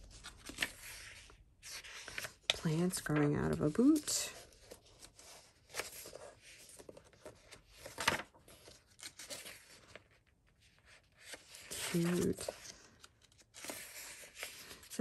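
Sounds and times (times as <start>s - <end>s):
paper pages turning: 0.0s - 15.0s.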